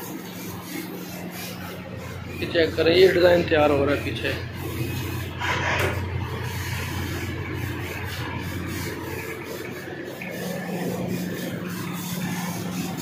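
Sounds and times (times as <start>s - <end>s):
laser cutter hissing: 0.0s - 13.0s
low machine hum: 0.0s - 13.0s.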